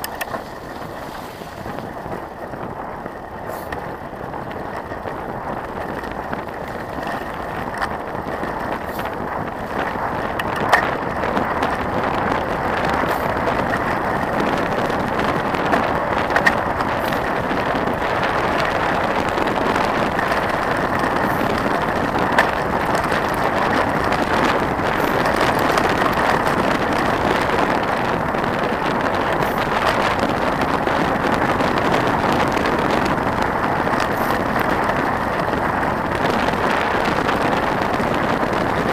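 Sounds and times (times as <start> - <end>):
bicycle tyres rolling on gravel: 0.0 - 38.9.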